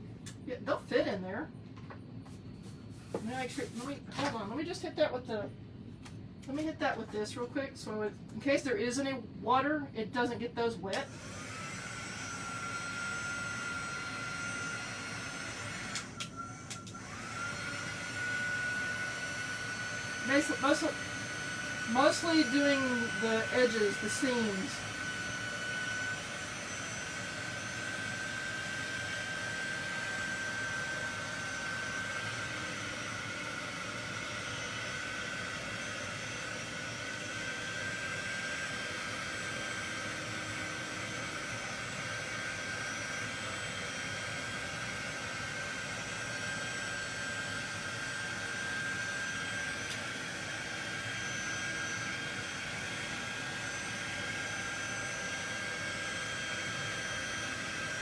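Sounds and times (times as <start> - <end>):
hot-air blower running: 0.0 - 58.0.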